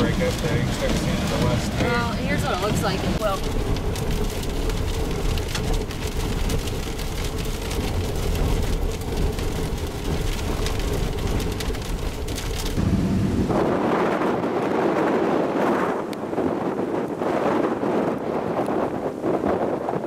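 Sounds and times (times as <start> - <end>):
heavy rain on vehicle: 0.0 - 20.0
wind buffeting microphone: 0.0 - 20.0.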